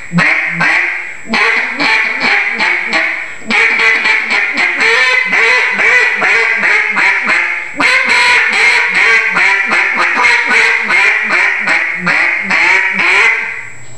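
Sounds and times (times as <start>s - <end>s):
duck call quacks: 0.1s - 13.6s.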